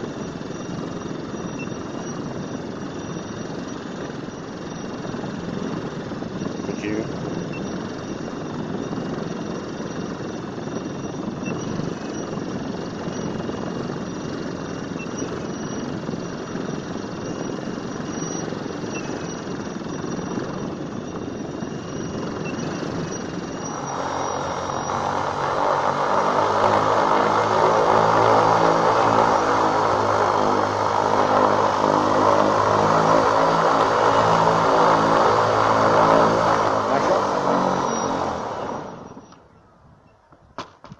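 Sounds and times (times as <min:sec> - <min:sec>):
paramotor propeller whirring: 0:00.0 - 0:39.6
steady pitched hum: 0:00.0 - 0:39.6.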